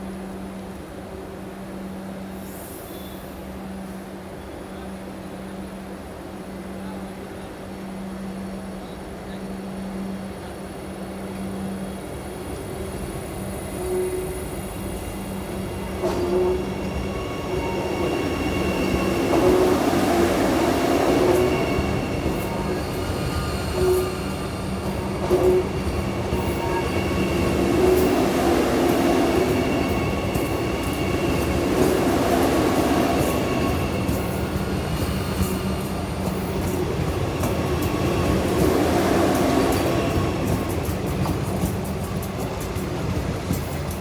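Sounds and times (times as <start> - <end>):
train rumbling along track: 0.0 - 44.0.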